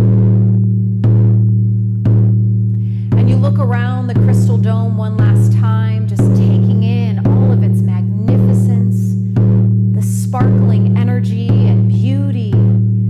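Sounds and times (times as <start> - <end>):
deep drum beats: 0.0 - 13.0.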